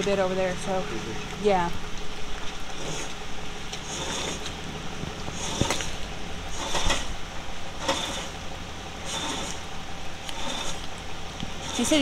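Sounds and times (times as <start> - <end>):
rain: 0.0 - 12.0
vehicle engine idling: 0.0 - 12.0.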